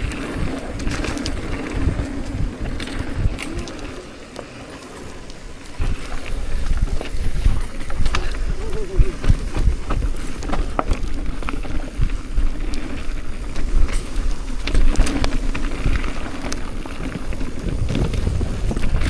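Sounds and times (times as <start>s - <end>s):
bike rattling over rough ground: 0.0s - 19.0s
tyres rumbling over dirt: 0.0s - 19.0s
wind: 0.0s - 19.0s.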